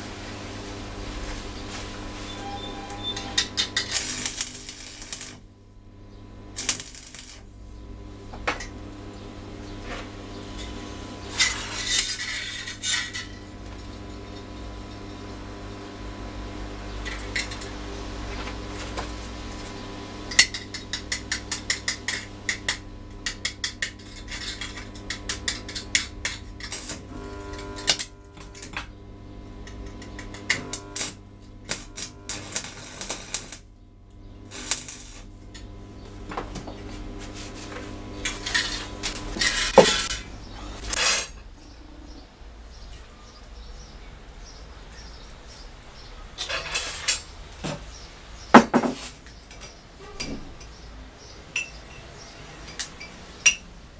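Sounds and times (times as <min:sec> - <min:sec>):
arc welding crackle: 0:00.0 - 0:41.6, 0:46.4 - 0:48.1
steady low hum: 0:00.0 - 0:46.4.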